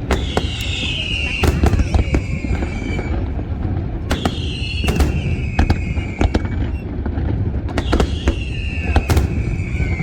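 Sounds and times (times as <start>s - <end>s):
falling firework whistle: 0.0s - 3.5s, 4.1s - 7.1s, 7.7s - 10.0s
fireworks bangs: 0.0s - 10.0s.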